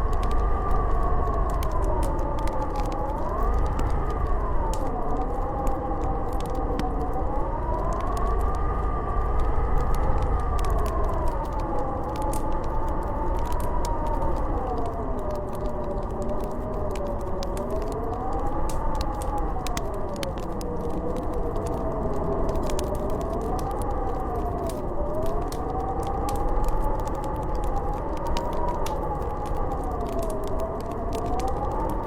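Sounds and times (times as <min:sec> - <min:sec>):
howling blizzard wind: 0:00.0 - 0:32.0
wood fire crackling: 0:00.0 - 0:32.0.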